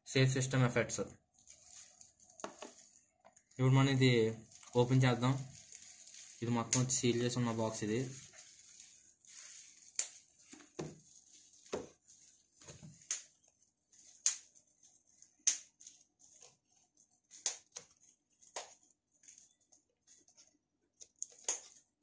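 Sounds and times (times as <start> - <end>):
plastic wrap crinkling and tearing: 0.6 - 22.0.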